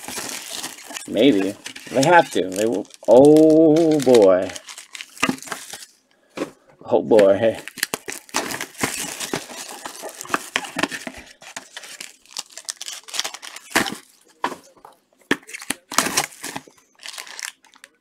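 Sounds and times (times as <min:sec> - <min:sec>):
plastic wrapping crinkling and tearing: 0:00.0 - 0:06.0, 0:07.1 - 0:18.0.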